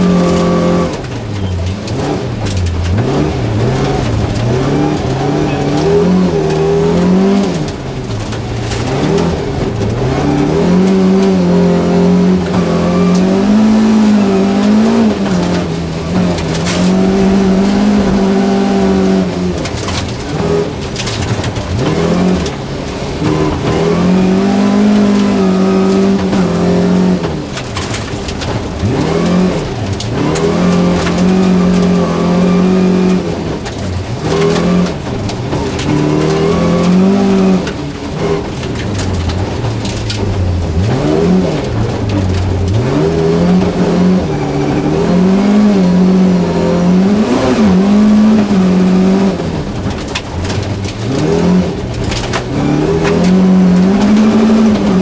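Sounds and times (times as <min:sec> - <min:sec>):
gravel clattering against car: 0:00.0 - 0:55.0
rally car engine revving hard: 0:00.0 - 0:55.0.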